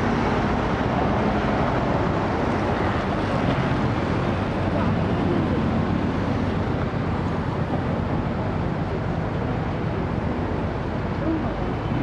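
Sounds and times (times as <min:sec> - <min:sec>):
low rumble of passing vehicles: 0:00.0 - 0:12.0.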